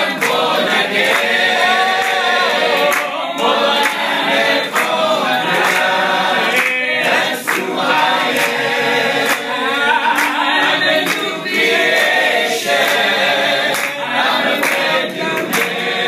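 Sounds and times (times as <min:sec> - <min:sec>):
group singing a cappella: 0:00.0 - 0:16.0
hand claps: 0:00.0 - 0:16.0.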